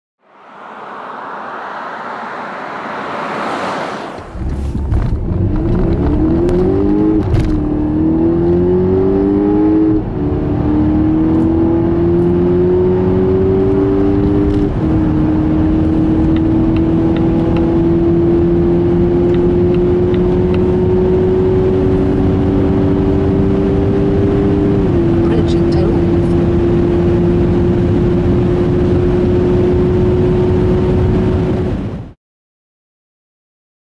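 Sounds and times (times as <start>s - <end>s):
car engine accelerating hard: 0.2s - 32.2s.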